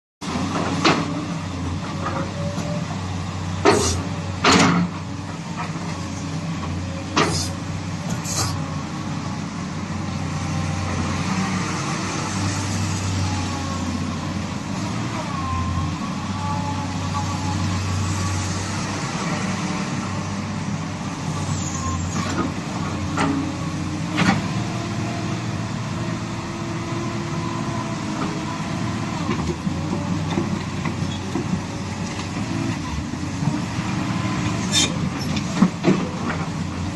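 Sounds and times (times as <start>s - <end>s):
excavator diesel engine running: 0.2s - 36.9s.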